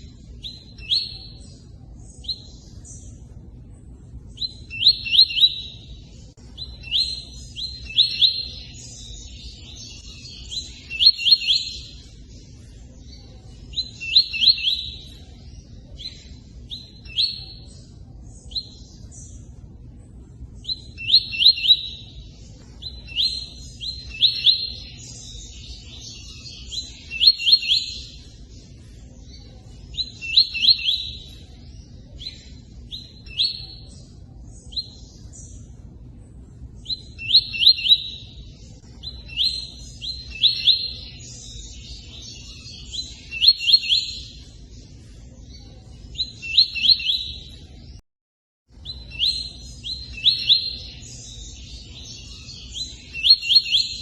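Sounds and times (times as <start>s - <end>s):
bird chirping: 0.0s - 48.0s, 48.7s - 54.0s.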